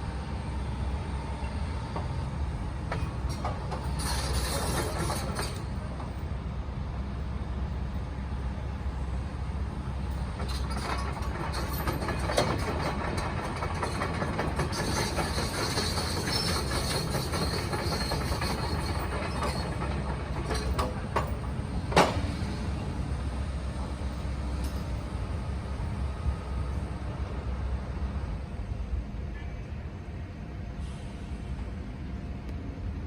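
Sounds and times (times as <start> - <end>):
excavator engine running: 0.0 - 28.8.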